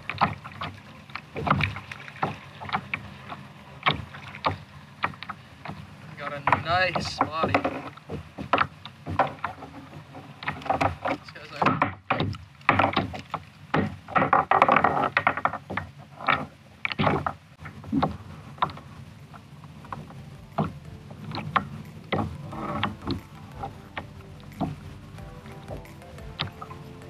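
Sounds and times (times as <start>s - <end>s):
clicks and knocks on plastic kayak: 0.0s - 26.8s.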